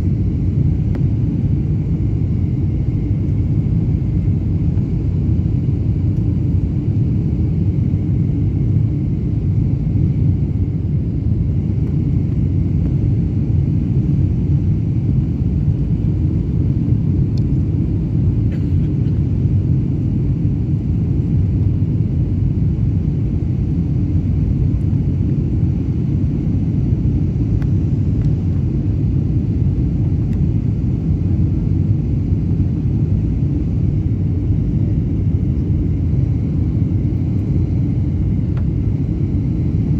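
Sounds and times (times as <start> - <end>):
airliner rumble: 0.0 - 39.9.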